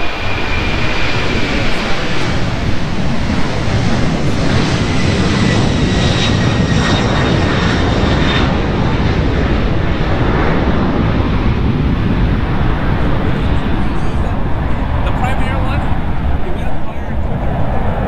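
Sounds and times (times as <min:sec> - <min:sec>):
jet airliner taking off: 0:00.0 - 0:18.0
thin high engine whine: 0:00.0 - 0:18.0.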